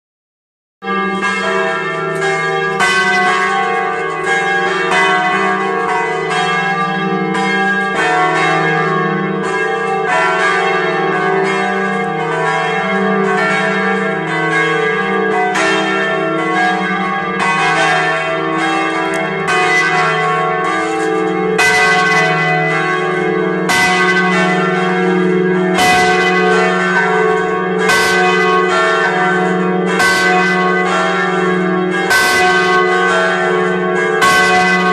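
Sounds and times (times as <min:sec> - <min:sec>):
church bells ringing: 0:00.8 - 0:34.9.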